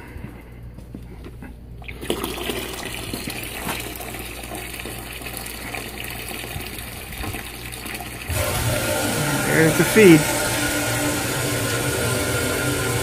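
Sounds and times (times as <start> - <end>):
water rushing into a bucket: 1.8 - 13.0.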